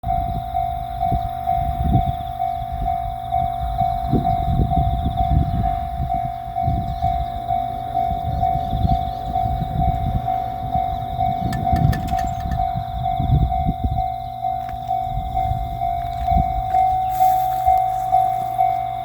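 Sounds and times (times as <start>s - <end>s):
level-crossing bell ringing: 0.1s - 19.0s.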